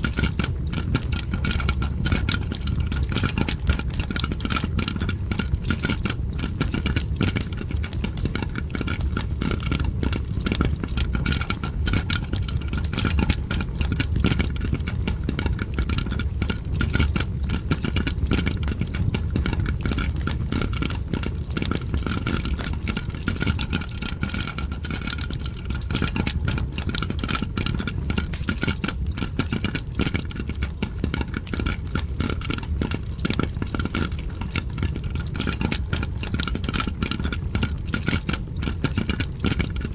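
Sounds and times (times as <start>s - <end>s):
fire crackling: 0.0s - 39.9s
popcorn popping: 0.0s - 39.9s.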